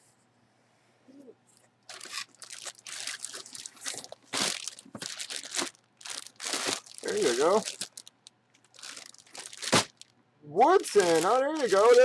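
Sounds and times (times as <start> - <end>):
plastic bag crinkling: 1.9 - 12.0.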